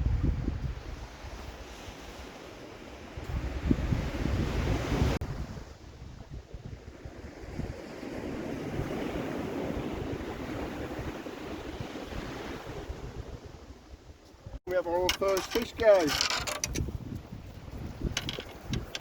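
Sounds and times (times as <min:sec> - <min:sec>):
wind buffeting microphone: 0:00.0 - 0:02.4, 0:03.0 - 0:19.0
sea waves washing on shore: 0:00.6 - 0:19.0.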